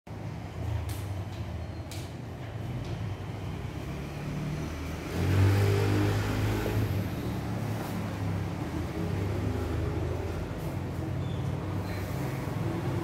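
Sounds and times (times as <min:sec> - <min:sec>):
low engine-like hum: 0:00.1 - 0:13.0.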